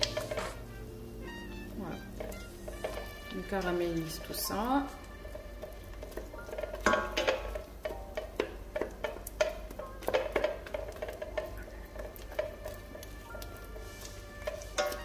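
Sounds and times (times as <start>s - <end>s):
soft background music: 0.0s - 15.0s
spatula stirring nuts in a pan: 0.0s - 15.0s.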